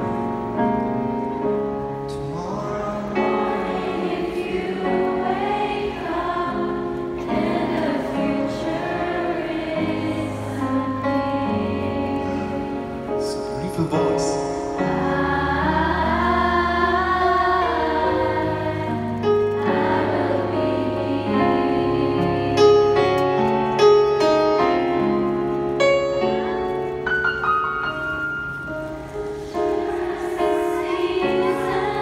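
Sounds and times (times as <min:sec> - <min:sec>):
piano accompaniment: 0:00.0 - 0:32.0.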